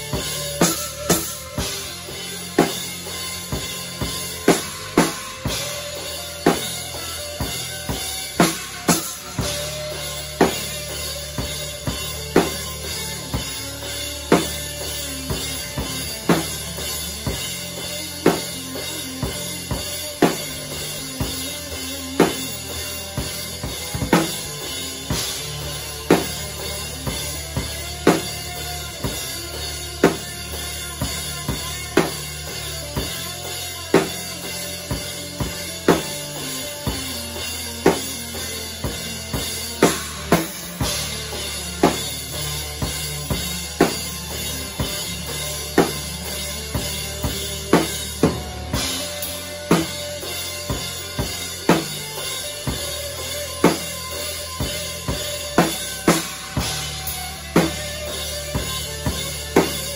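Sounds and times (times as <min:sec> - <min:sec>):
heavy slow drum kit groove: 0:00.0 - 0:59.9.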